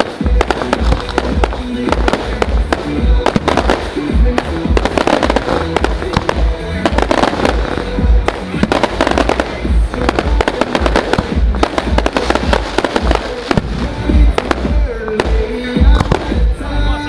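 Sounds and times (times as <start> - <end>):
fireworks bangs and crackles: 0.0 - 17.0
loud music through sound system: 0.0 - 17.0.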